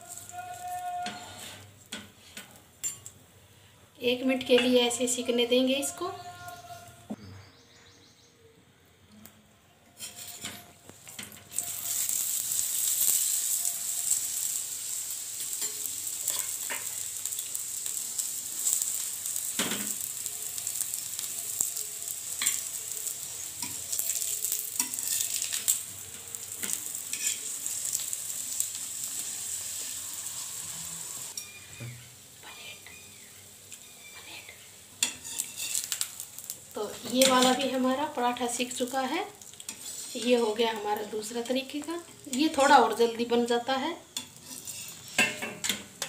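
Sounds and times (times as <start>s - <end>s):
ghee sizzling in a pan: 0.0s - 6.6s, 10.0s - 46.0s.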